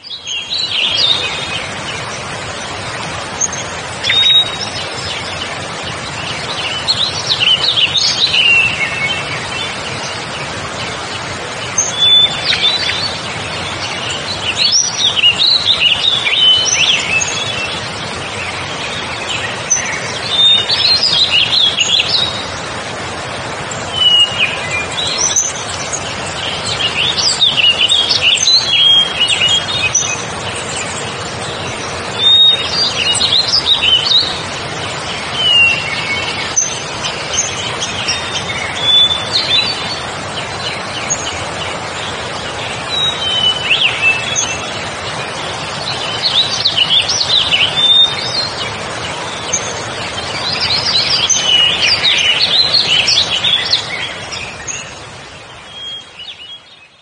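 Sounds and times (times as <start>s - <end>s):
wild birds chirping: 0.0s - 57.0s.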